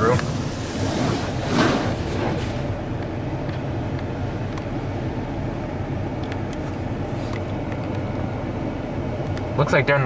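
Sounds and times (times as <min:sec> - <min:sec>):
truck idling: 0:00.0 - 0:10.0.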